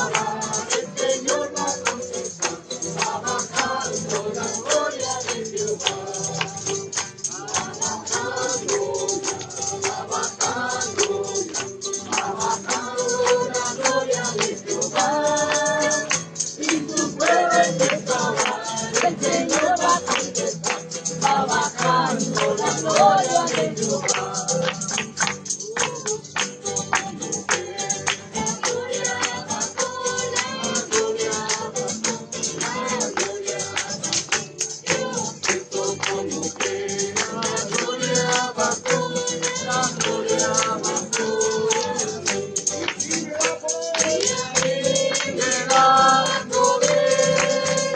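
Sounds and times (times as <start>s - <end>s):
group singing a hymn: 0.0s - 47.9s
tambourine jingling: 0.0s - 47.9s.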